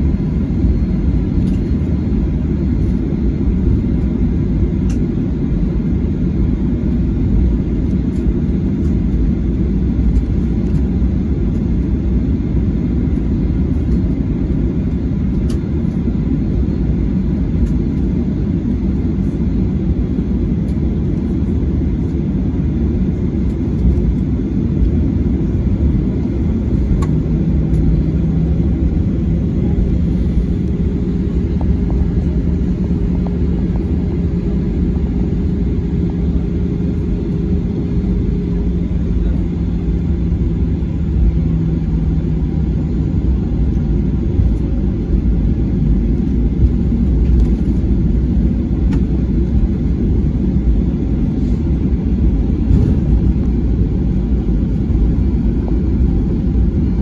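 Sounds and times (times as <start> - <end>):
jet engines low rumble: 0.0 - 57.0
steady hum: 0.0 - 57.0.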